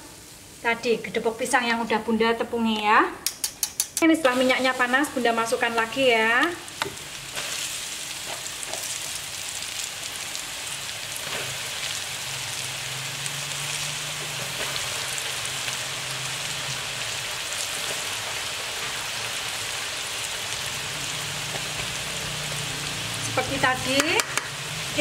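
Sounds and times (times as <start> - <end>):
food deep-frying in hot oil: 2.8 - 25.0.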